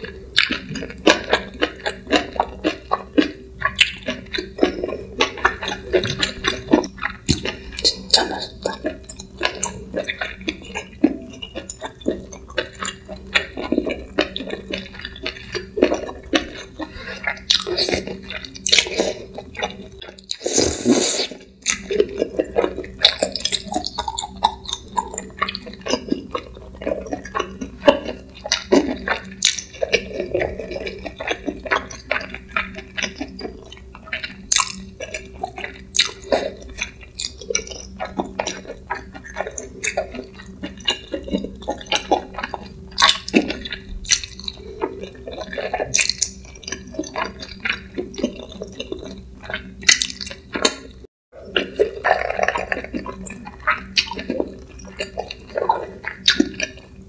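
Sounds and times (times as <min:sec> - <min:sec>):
wet chewing smacks: 0:00.0 - 0:50.9, 0:51.5 - 0:56.9.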